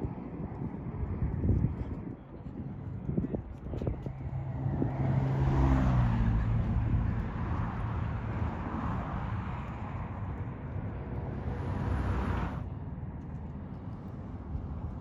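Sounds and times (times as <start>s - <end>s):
road traffic rumble: 2.6s - 15.0s.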